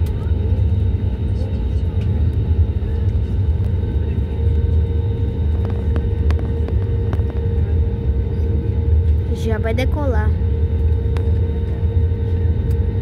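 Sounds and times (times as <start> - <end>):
aircraft cabin rumble: 0.0 - 13.0
engine hum: 0.0 - 13.0.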